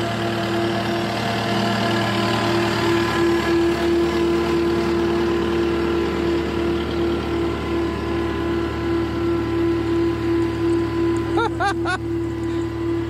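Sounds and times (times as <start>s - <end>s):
diesel loader engine running: 0.0s - 13.0s.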